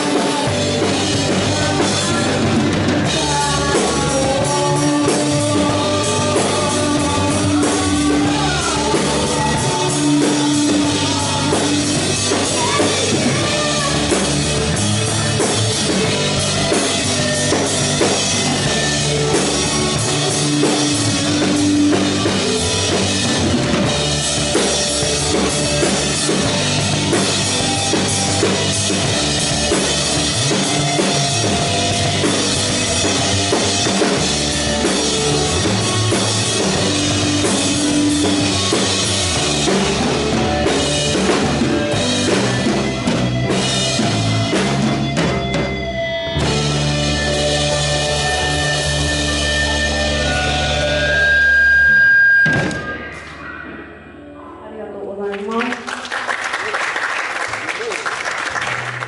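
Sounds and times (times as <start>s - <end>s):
drum kit beat: 0.0s - 51.0s
held keyboard notes: 0.0s - 51.7s
live band playing: 0.0s - 59.0s.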